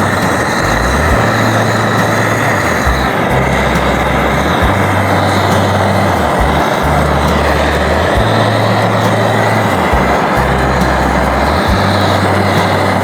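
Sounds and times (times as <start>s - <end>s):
low rumble: 0.0s - 13.0s
stream flowing: 0.0s - 13.0s.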